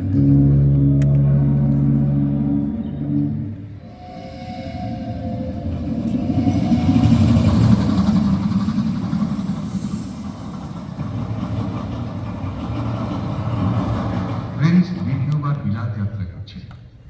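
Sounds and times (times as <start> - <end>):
rumbling rolling vehicle: 0.0 - 16.4.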